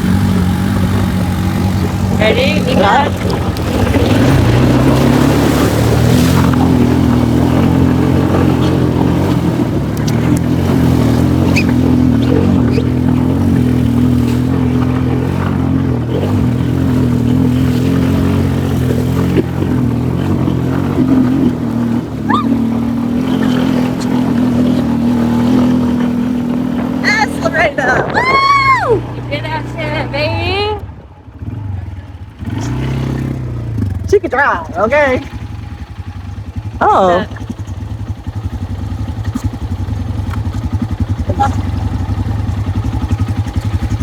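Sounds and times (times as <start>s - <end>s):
atv engine running: 0.0s - 44.0s.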